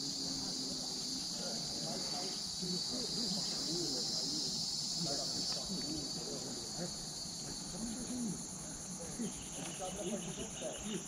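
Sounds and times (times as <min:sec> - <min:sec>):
insects chirring: 0:00.0 - 0:11.0
low pulsing insect trill: 0:00.0 - 0:11.0.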